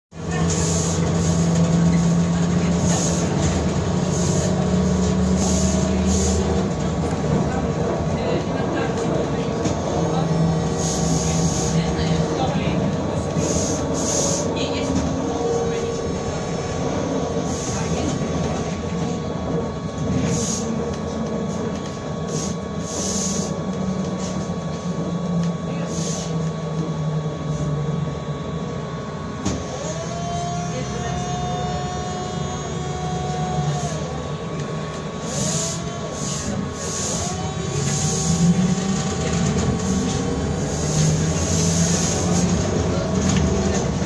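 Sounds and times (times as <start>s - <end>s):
trolleybus electric hum: 0.1s - 44.0s.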